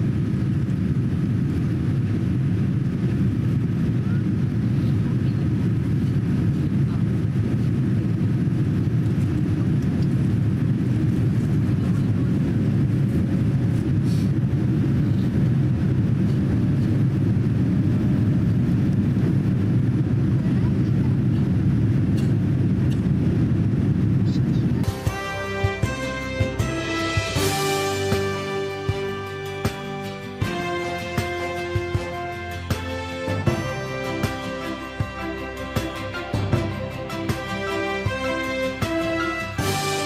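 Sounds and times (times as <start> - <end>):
airliner cabin engine roar: 0.0 - 40.0.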